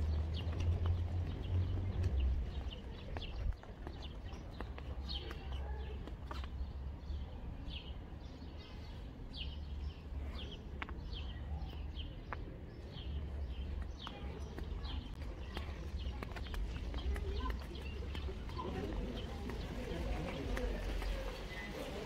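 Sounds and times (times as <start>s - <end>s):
footsteps on stone paving: 0.0s - 22.0s
small birds chirping: 0.0s - 22.0s.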